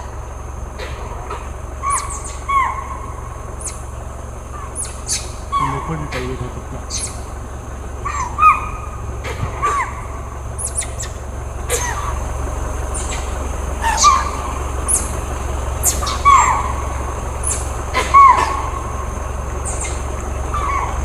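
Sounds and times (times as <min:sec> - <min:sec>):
low steady hum: 0:00.0 - 0:21.0
sharp bird calls: 0:00.0 - 0:21.0.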